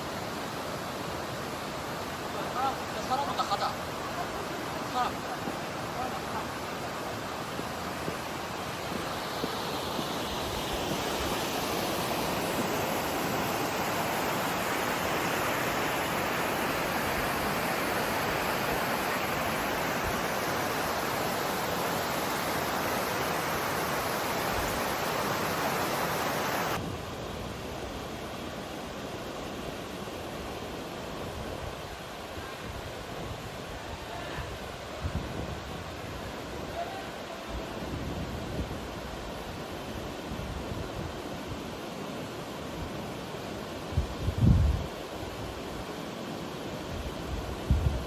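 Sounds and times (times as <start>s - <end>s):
river rushing over rocks: 0.0s - 48.0s.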